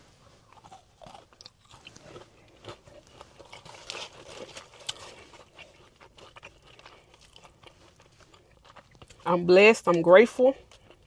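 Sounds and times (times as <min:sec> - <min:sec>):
chewing food: 0:00.4 - 0:11.0.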